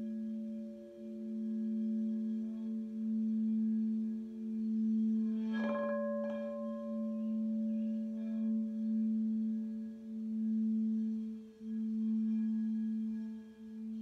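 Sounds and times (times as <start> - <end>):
singing bowl humming: 0.0 - 14.0.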